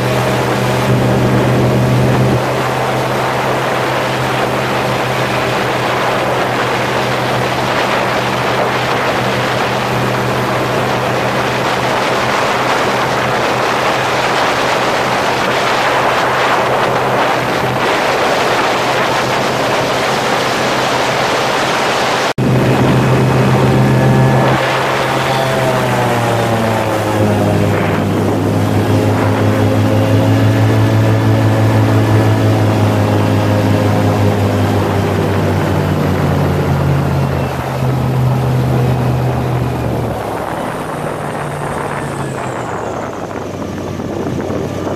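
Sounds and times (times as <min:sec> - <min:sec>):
airboat engine and propeller: 0:00.0 - 0:44.9.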